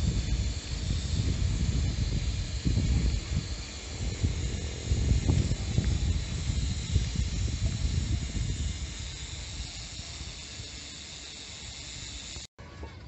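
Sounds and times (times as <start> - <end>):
wind rumbling on microphone: 0.0 - 12.4
steady high hiss: 0.0 - 12.5.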